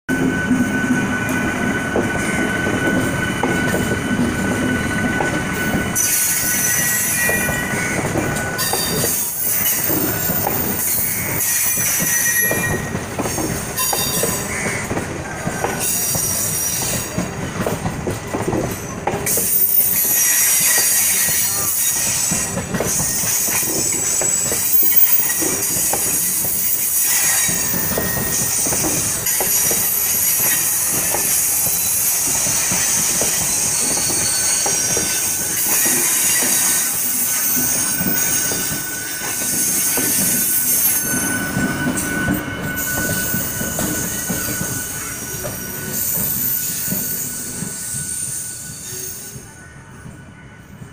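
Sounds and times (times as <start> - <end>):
train wheels rumbling on rails: 0.1 - 50.9
high-pitched wheel squeal: 0.2 - 12.9, 19.4 - 49.5.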